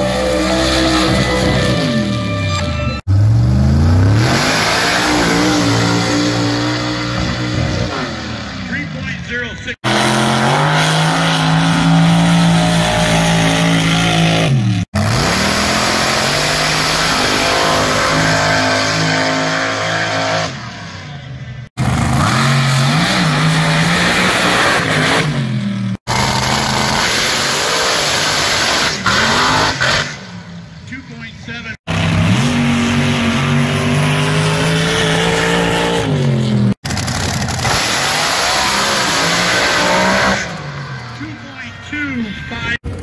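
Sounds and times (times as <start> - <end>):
high-revving race engines: 0.0 - 2.3, 3.0 - 43.0.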